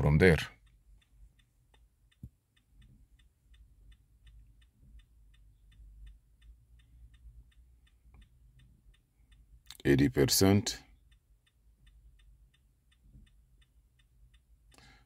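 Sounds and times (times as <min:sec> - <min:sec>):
faint steady ticking: 0:00.0 - 0:15.0.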